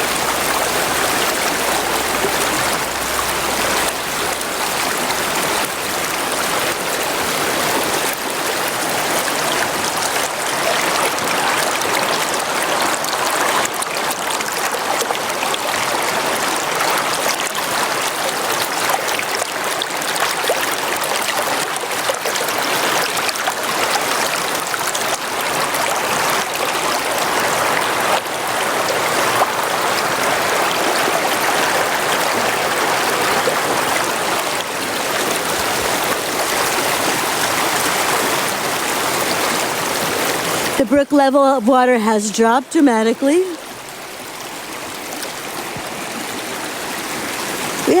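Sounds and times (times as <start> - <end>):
brook water flowing: 0.0 - 48.0.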